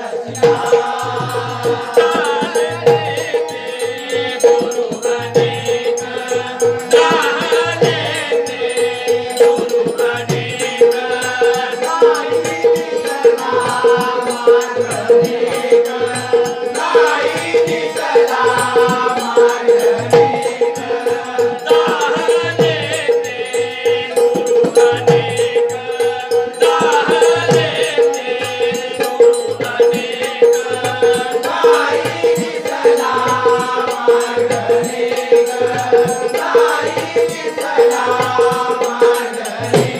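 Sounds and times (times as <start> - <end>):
drum beats: 0.0 - 39.9
jingling percussion: 0.0 - 39.9
voices singing a melody: 0.0 - 39.9.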